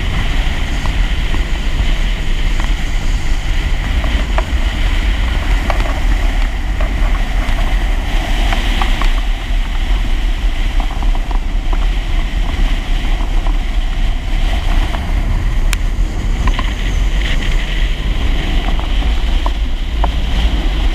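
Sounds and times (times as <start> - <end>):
personal watercraft engine: 0.0 - 20.9
water rushing under hull: 0.0 - 20.9
wind buffeting microphone: 0.0 - 20.9.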